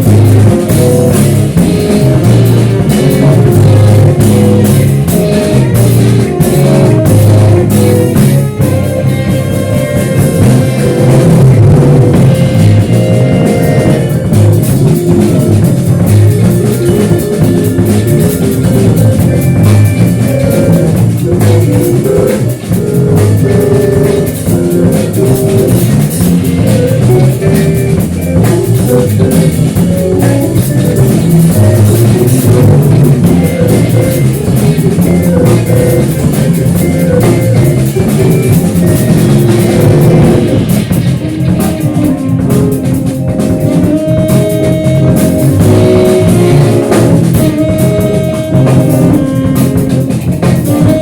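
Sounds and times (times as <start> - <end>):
drum kit: 0.0 - 51.0
electric guitar: 0.0 - 51.0
live rock band playing: 0.0 - 51.0.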